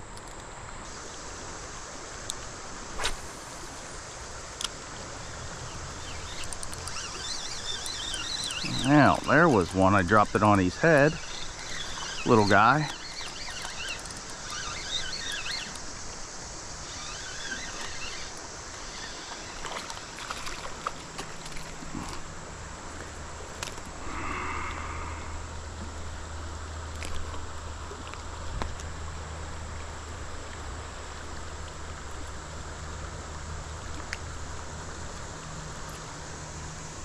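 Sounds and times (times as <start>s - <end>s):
creek water running: 0.0s - 37.0s.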